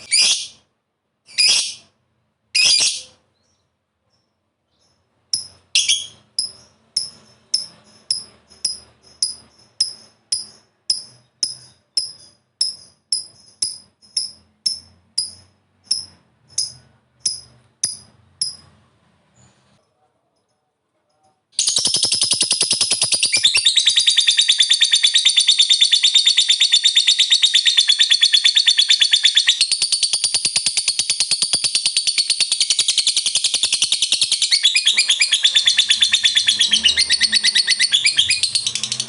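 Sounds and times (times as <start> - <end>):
lovebird chirping: 0.0 - 0.7, 1.3 - 19.8, 21.6 - 39.0.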